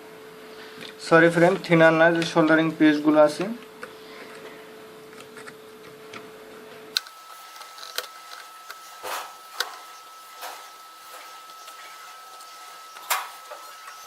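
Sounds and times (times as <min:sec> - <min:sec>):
faint electrical whine: 0:00.0 - 0:14.0.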